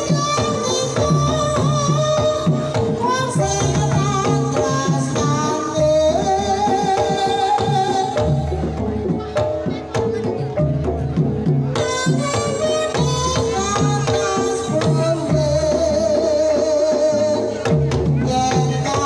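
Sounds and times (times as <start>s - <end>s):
gamelan ensemble playing: 0.0s - 19.0s.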